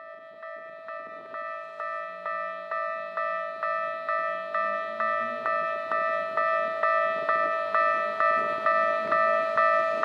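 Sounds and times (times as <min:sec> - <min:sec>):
level crossing warning bell: 0:00.0 - 0:10.0.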